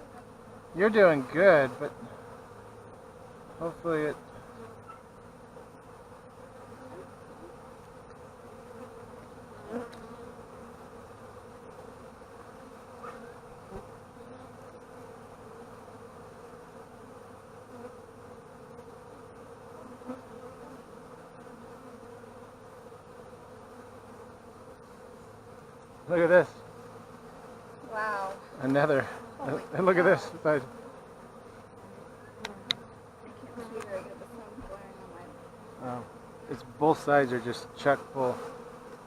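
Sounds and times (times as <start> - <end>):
bees buzzing: 0.0 - 39.0.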